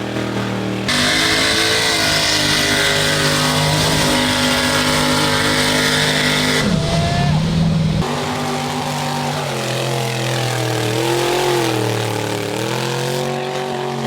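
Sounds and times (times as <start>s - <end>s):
truck engine revving high: 0.0s - 14.0s.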